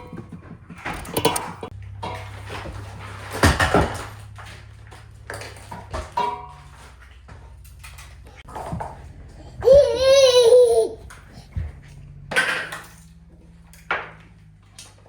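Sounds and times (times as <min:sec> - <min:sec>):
knocks and clattering: 0:00.0 - 0:15.0
low steady hum: 0:00.0 - 0:15.0.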